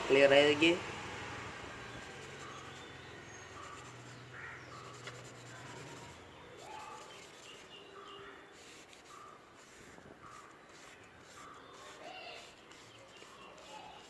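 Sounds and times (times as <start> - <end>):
faint bird chirps: 1.9 - 14.0.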